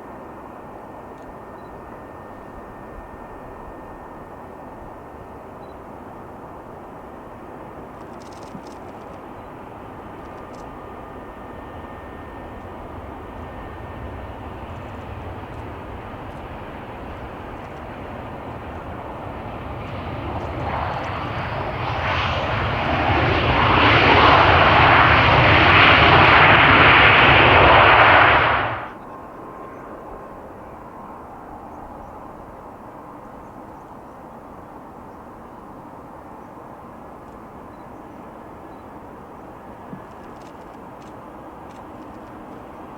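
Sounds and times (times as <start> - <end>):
jet airliner engines: 0.0 - 42.9.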